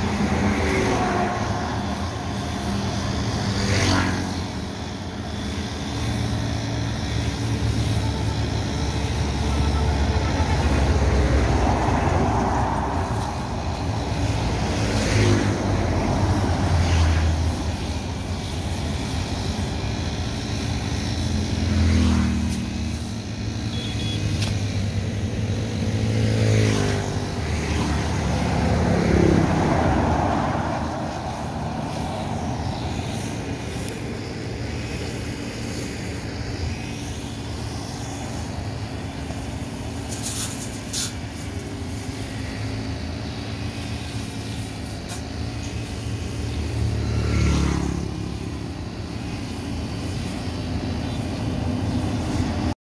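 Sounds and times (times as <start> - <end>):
brush cutter engine running: 0.0 - 52.7.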